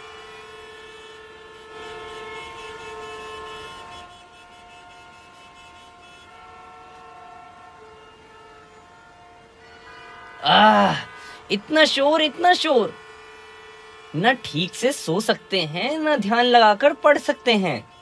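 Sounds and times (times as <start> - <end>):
street traffic noise: 0.0 - 18.0
vehicle horns honking: 0.0 - 18.0.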